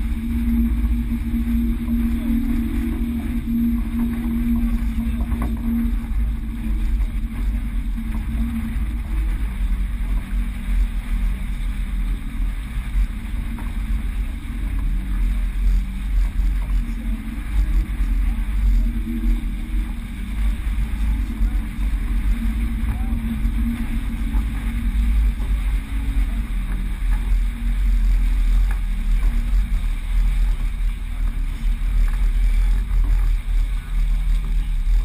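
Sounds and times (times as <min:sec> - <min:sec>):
low rumble aboard a sailboat: 0:00.0 - 0:35.0.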